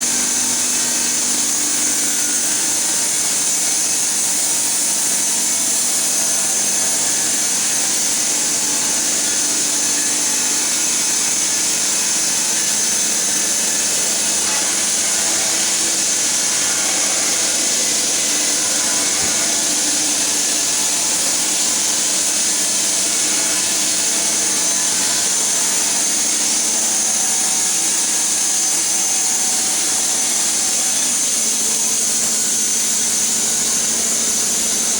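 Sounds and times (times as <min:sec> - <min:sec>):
woodworking machine cutting log: 0:00.0 - 0:34.9.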